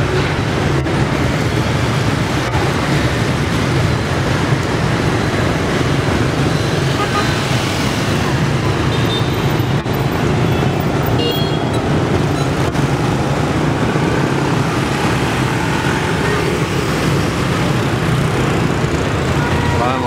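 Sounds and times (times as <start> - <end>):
motorbikes and scooters passing: 0.0 - 20.0.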